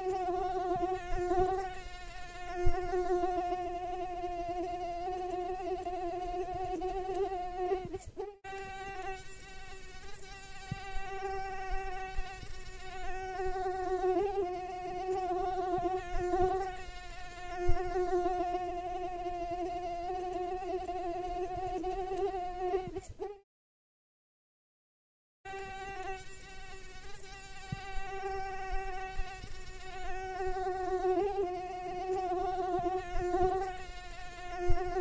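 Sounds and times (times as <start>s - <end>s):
mosquito wingbeat whine: 0.0s - 23.4s, 25.5s - 35.0s.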